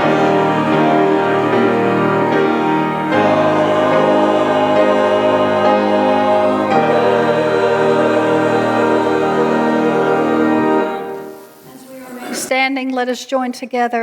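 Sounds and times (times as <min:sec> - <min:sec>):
keyboard accompaniment: 0:00.0 - 0:11.8
choir singing held chords: 0:00.0 - 0:12.5.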